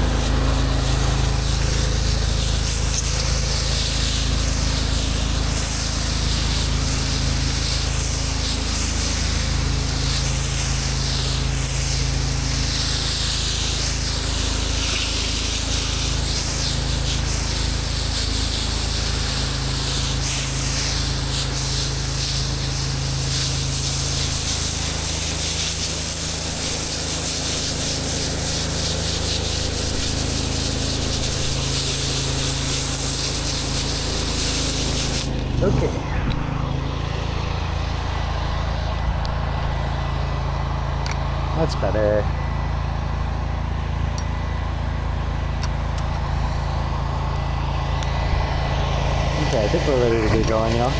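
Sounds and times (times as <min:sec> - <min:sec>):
low engine hum: 0:00.0 - 0:26.8, 0:27.6 - 0:50.9
pressure washer spraying water: 0:00.0 - 0:50.9.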